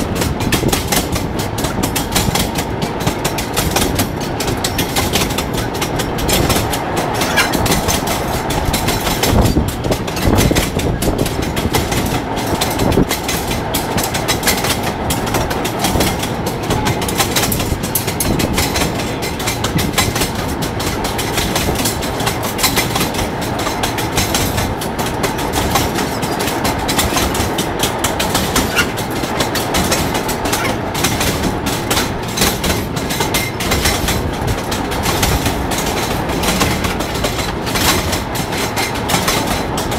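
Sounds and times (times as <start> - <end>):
continuous running noise: 0.0 - 39.9
rail trolley wheels clattering: 0.0 - 39.9.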